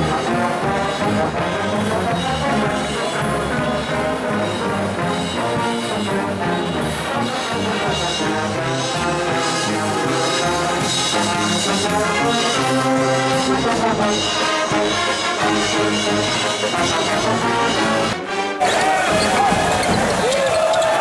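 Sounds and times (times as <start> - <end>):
brass band playing a tune: 0.0 - 21.0.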